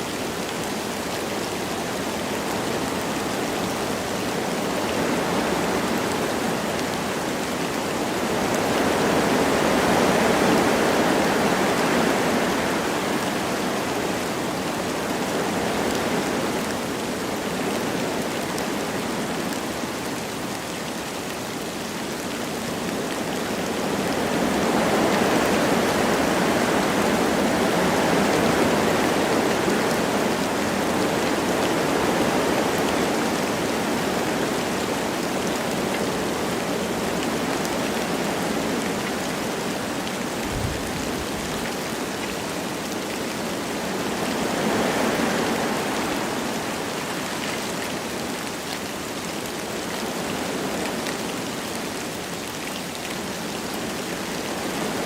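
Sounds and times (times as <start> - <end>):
light rain falling: 0.0 - 55.0
wind blowing through trees: 0.0 - 55.0.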